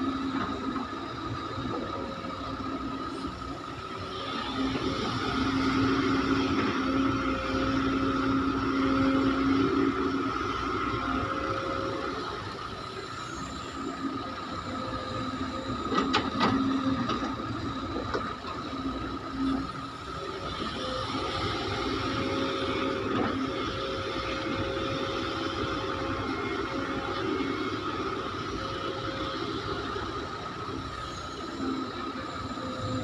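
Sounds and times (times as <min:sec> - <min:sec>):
hydraulic whine: 0:00.0 - 0:33.0.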